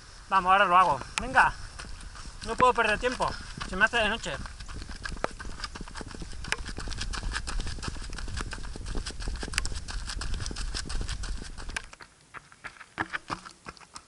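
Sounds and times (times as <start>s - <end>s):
running footsteps on gravel: 0.0s - 14.0s.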